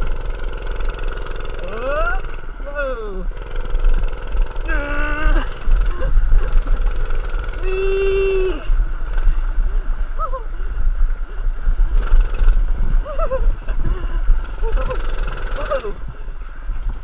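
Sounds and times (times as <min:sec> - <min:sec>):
small engine running: 0:00.0 - 0:09.9, 0:11.7 - 0:16.0
wind buffeting microphone: 0:00.0 - 0:17.0.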